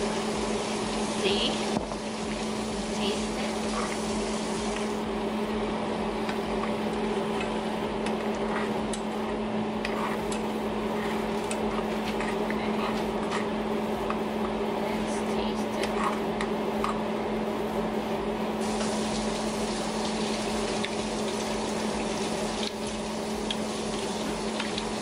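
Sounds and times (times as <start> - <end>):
kitchen appliance hum: 0.0 - 25.0.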